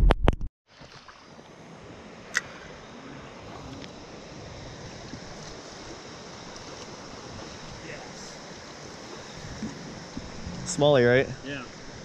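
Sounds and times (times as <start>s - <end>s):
flowing creek: 0.7s - 12.0s.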